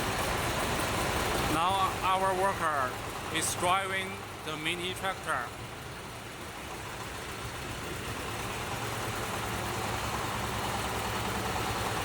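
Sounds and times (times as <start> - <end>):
mini tractor engine running: 0.0 - 12.0.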